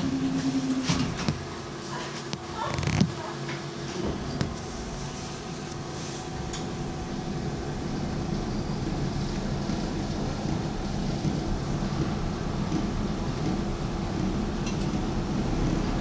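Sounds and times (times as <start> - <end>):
tram rumble with low hum: 0.0 - 16.0.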